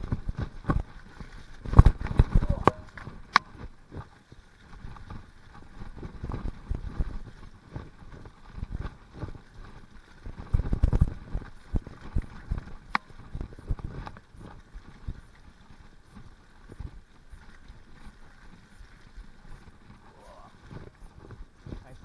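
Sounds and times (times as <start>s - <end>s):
bike rattling over bumps: 0.0s - 22.0s
bike tyres on mud: 0.0s - 22.0s.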